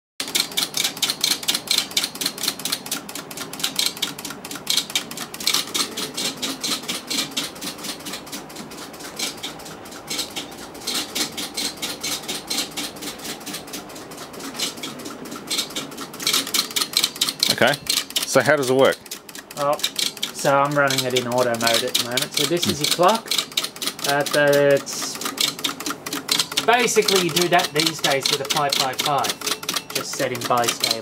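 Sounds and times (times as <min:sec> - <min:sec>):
relays clicking rapidly: 0:00.2 - 0:31.0.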